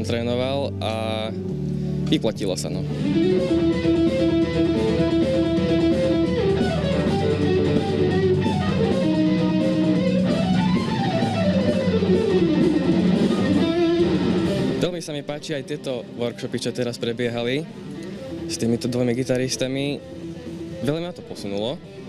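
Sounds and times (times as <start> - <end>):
low accompaniment: 0.0 - 17.7
electric guitar lead melody: 0.0 - 22.0.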